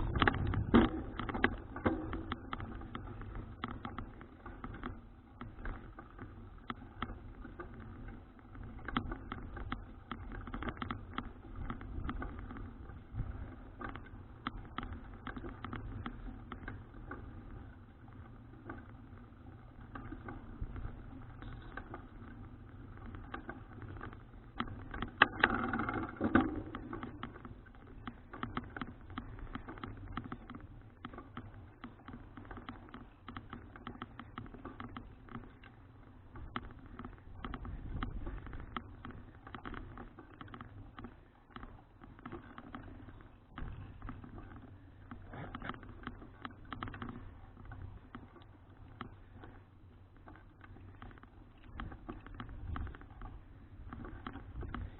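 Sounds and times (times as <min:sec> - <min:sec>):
bicycle clatter: 0:00.0 - 0:54.9
bicycle rattling clicks: 0:00.0 - 0:54.9.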